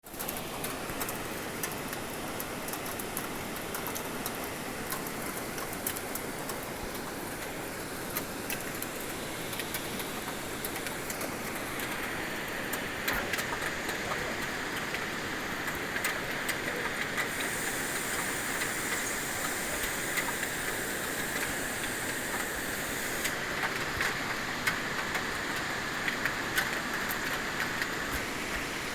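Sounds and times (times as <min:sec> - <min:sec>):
raindrops ticking on a surface: 0:00.1 - 0:28.7.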